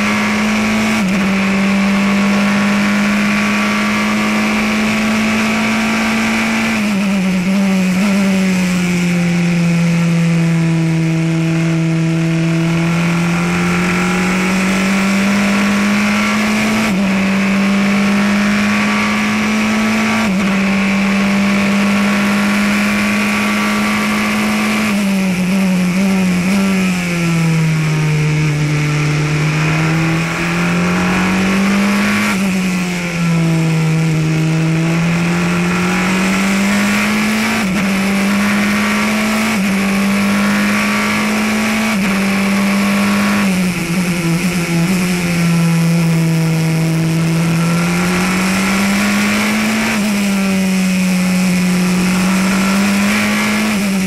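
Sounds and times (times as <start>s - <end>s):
racing car engine revving: 0.0s - 54.0s.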